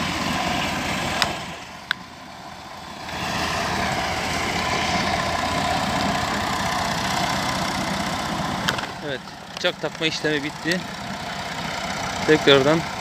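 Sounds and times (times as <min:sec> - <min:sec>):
mower engine idling: 0:00.0 - 0:13.0.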